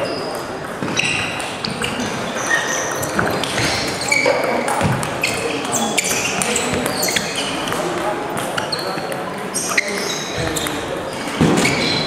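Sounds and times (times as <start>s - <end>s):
shoes squeaking on floor: 0.0s - 12.0s.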